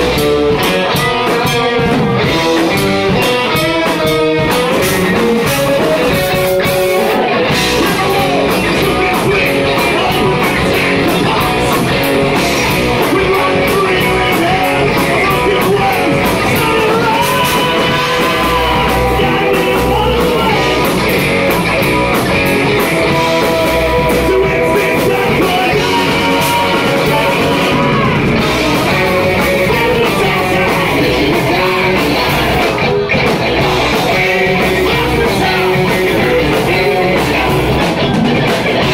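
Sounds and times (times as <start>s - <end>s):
live rock band playing: 0.0s - 38.9s
screamed lead vocal: 5.0s - 38.9s.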